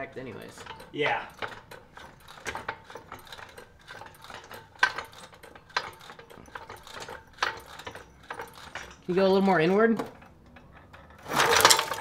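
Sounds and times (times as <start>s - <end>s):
metallic clicks and clanks of tools: 0.0s - 12.0s.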